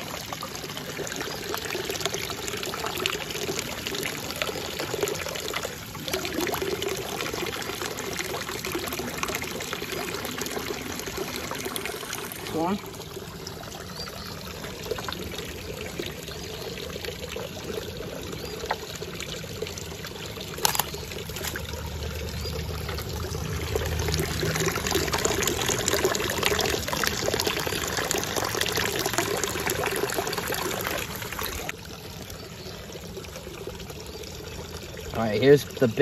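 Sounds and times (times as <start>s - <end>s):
fountain water splashing into pond: 0.0s - 36.0s.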